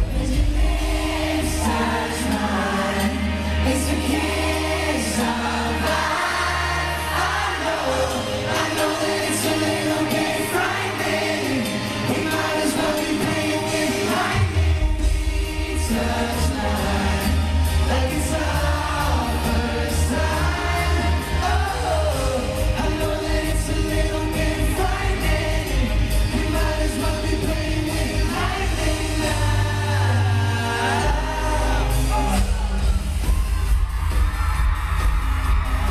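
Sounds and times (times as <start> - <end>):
male voices singing: 0.0 - 33.3
pop backing with heavy bass: 0.0 - 35.9.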